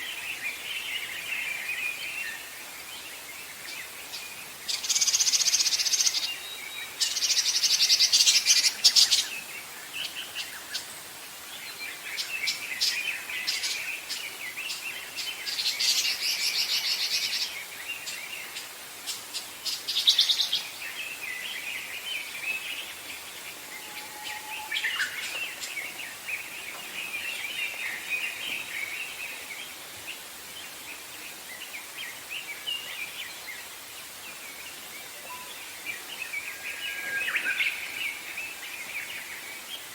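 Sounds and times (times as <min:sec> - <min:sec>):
chorus of faint bird chirps: 0:00.0 - 0:39.9.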